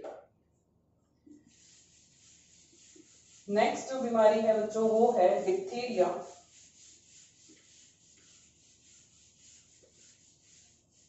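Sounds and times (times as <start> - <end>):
duster rubbing whiteboard: 1.4 - 11.0.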